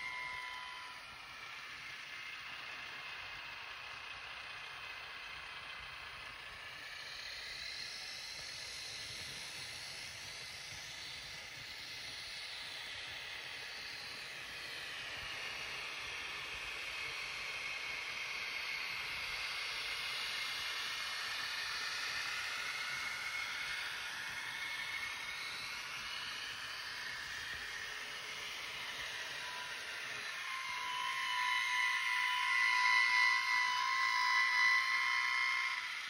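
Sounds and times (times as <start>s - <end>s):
model trains hissing and whining: 0.0s - 36.0s.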